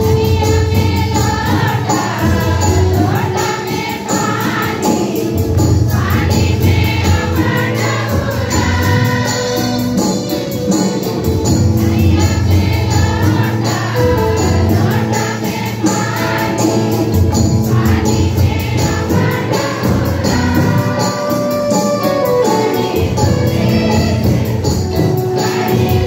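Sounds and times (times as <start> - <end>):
congregation singing a hymn: 0.0 - 26.0
hand drum beat: 0.0 - 26.0.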